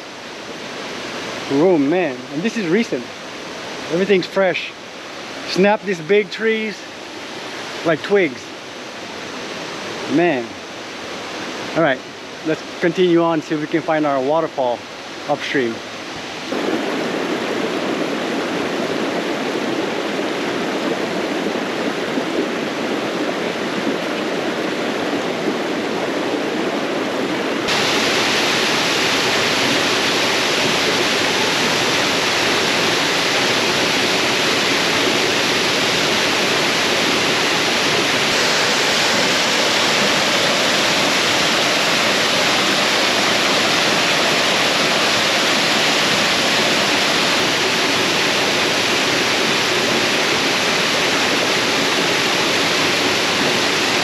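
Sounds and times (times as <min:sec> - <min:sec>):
stream rushing: 0:00.0 - 0:54.0
waterfall rushing: 0:00.0 - 0:54.0.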